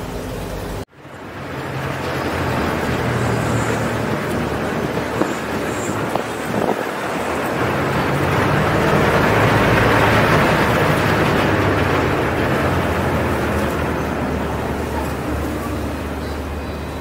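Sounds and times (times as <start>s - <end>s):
boat engine idling: 0.0s - 17.0s
broad rushing noise: 0.0s - 17.0s.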